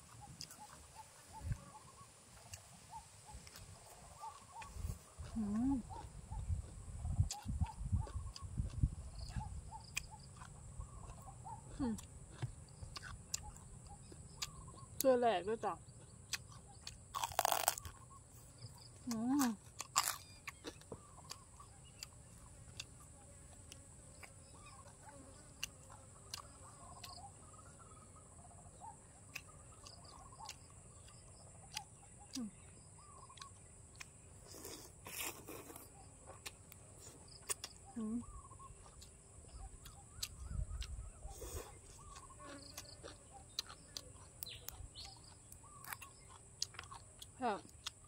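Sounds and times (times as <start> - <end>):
person chewing crunchy food: 0.0 - 1.7, 2.4 - 15.0, 15.9 - 27.3, 29.3 - 48.0
birds chirping: 0.0 - 23.4, 24.1 - 34.5, 35.7 - 48.0.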